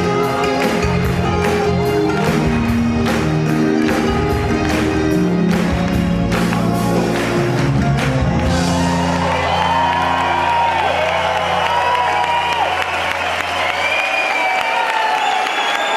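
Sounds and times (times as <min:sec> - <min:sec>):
live band playing loudly: 0:00.0 - 0:13.8.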